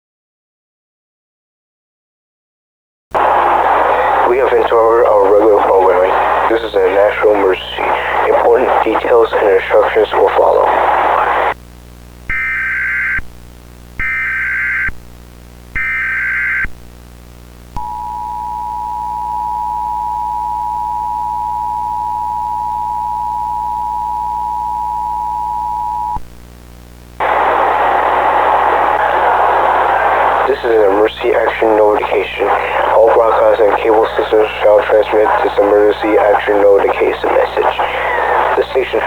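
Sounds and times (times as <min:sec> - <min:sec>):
faint steady buzz: 0:03.2 - 0:39.0.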